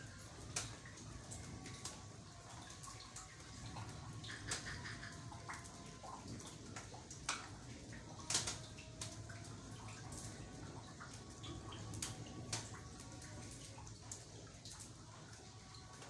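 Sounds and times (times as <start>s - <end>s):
rain water dripping and splashing: 0.0s - 16.0s.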